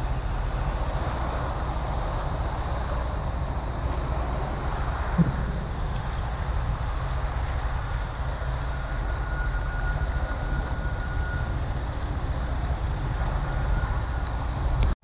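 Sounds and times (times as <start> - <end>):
heavy rain pouring: 0.0 - 15.0
wind buffeting microphone: 0.0 - 15.0.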